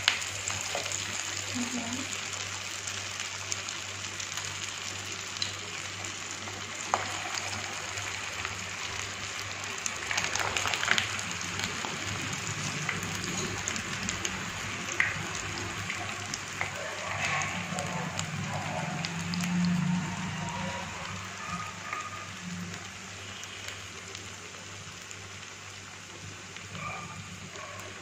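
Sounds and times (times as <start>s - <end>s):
patties deep-frying in oil: 0.0s - 28.0s.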